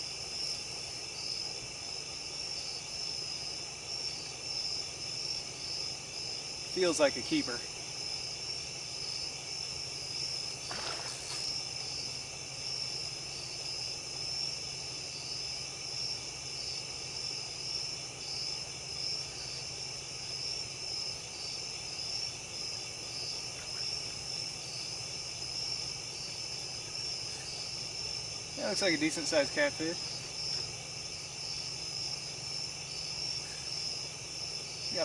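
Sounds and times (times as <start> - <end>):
crickets and insects trilling: 0.0 - 35.0.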